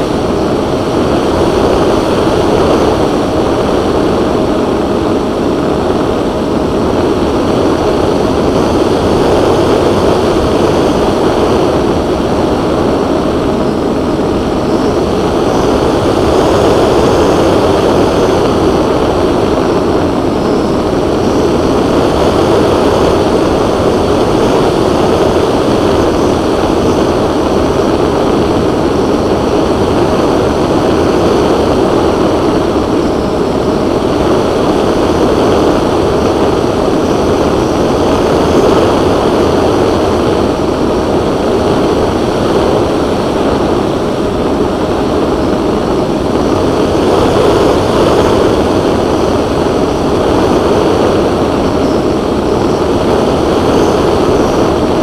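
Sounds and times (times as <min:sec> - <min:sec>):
wind noise: 0:00.0 - 0:55.0.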